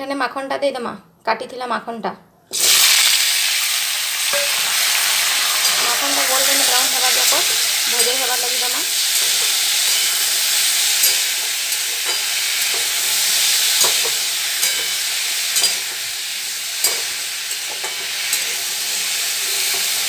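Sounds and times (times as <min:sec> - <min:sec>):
food sizzling in oil: 0:02.5 - 0:20.0.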